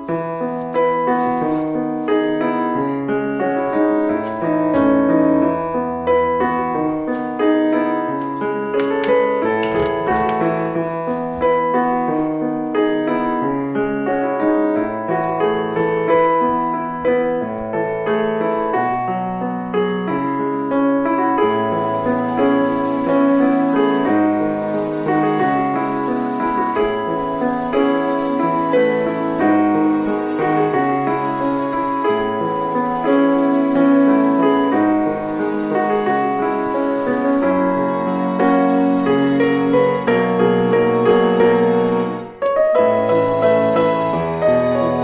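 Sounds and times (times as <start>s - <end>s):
piano melody with chords: 0.0s - 45.0s.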